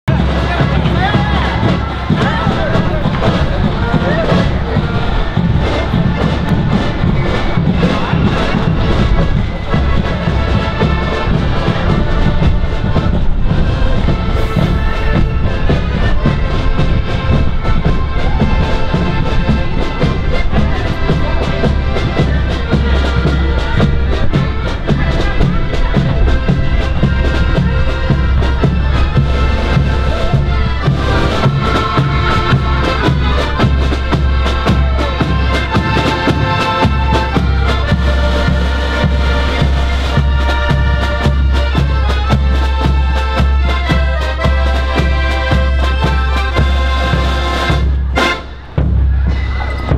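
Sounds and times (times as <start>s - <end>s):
accordion band playing: 0.0s - 49.9s
steady drum beat: 0.1s - 49.9s.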